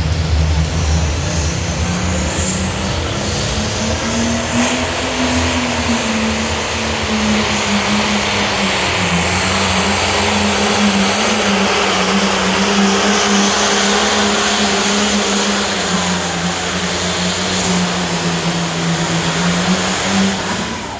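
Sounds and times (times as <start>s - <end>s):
tractor diesel engine revving: 0.0s - 20.9s.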